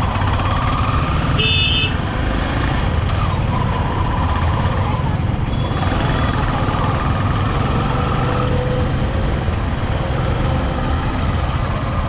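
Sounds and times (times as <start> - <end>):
auto-rickshaw engines: 0.0 - 12.0.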